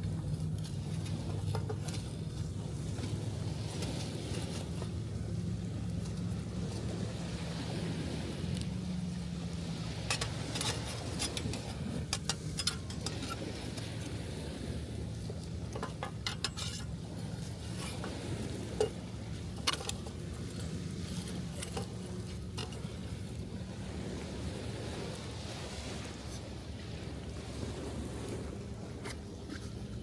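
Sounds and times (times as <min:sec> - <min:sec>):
surf rushing: 0:00.0 - 0:30.0.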